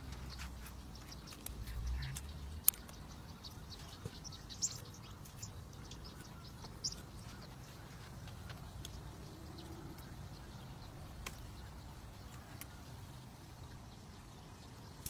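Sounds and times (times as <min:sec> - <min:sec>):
high bird chirps: 0:00.0 - 0:15.0
outdoor ambience: 0:00.0 - 0:15.0.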